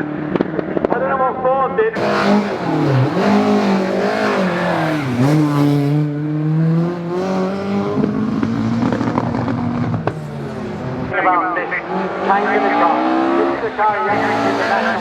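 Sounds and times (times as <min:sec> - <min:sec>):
rally car engine accelerating: 0:02.0 - 0:15.0.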